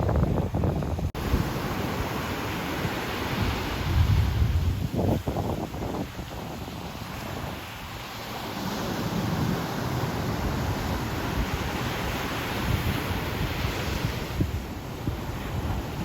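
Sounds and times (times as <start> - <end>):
ocean surf on a beach: 0.0 - 16.0
wind buffeting the microphone: 0.0 - 16.0.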